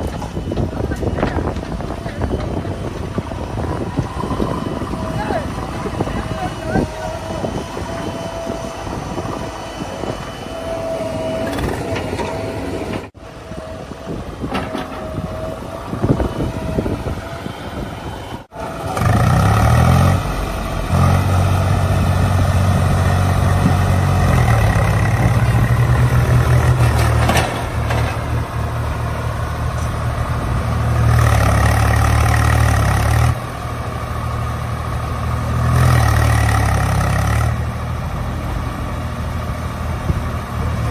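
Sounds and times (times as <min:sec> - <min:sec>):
diesel engine running hard: 0:00.0 - 0:40.9.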